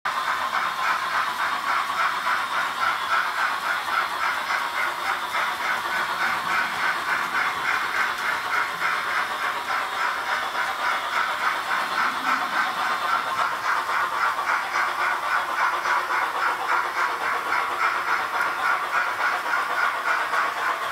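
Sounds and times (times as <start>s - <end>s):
model steam locomotive chuffing: 0.1s - 20.9s.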